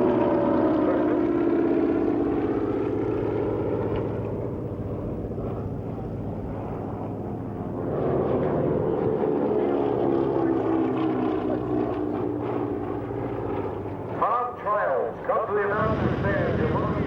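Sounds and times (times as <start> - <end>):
propeller airplane engine droning: 0.0 - 17.0.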